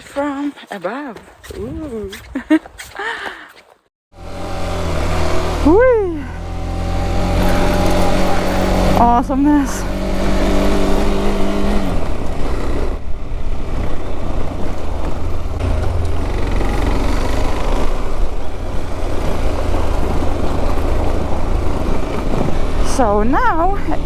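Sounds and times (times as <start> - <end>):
wind and road rumble: 0.0 - 24.0
motorcycle engine running: 4.2 - 24.0.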